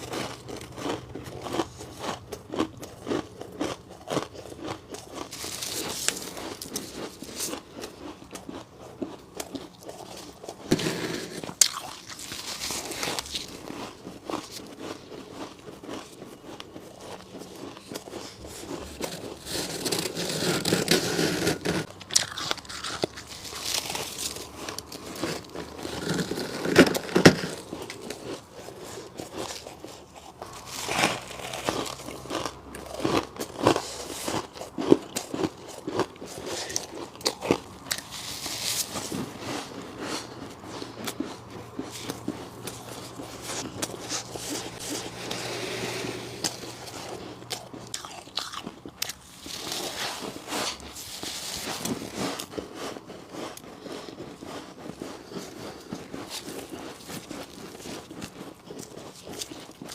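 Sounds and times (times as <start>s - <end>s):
crunching ice chunks: 0.0s - 45.5s, 46.4s - 59.9s.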